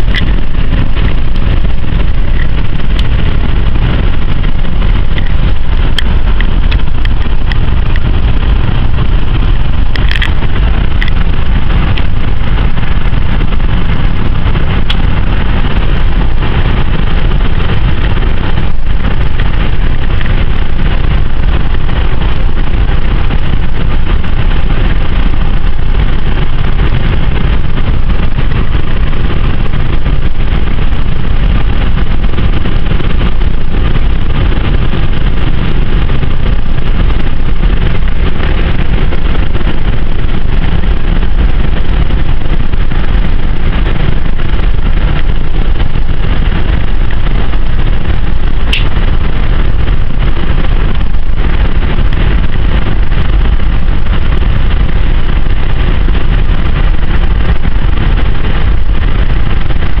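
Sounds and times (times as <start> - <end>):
car cabin running noise: 0.0 - 60.0.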